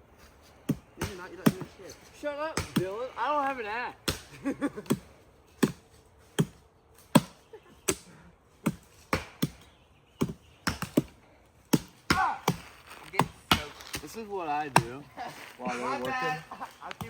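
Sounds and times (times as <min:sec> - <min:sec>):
axe chopping tree: 0:00.5 - 0:15.1.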